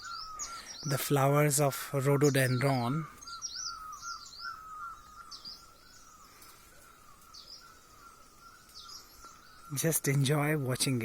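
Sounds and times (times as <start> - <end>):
birds whistling repeated notes: 0.0 - 11.0
high bird chirps: 0.0 - 11.0.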